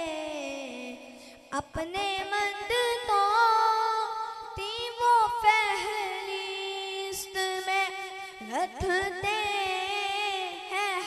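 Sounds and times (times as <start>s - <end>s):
boy singing into microphone: 0.0s - 11.0s.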